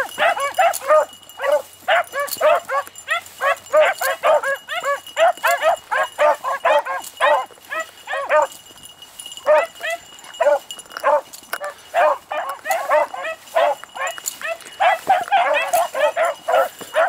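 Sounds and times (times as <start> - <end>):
dogs baying and yelping: 0.0 - 17.0.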